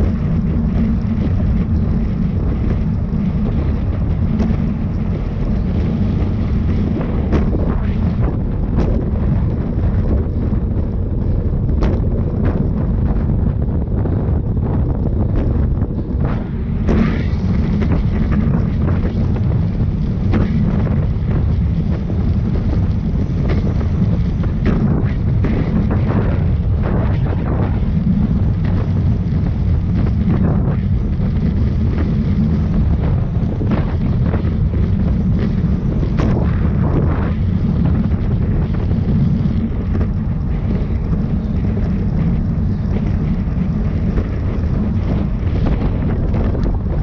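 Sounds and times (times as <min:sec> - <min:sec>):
short crackles: 0:00.0 - 0:47.0
wind buffeting microphone: 0:00.0 - 0:47.0.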